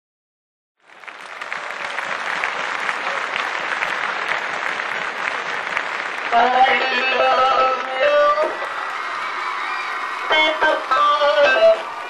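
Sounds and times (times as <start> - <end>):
audience applauding: 0.8 - 12.0.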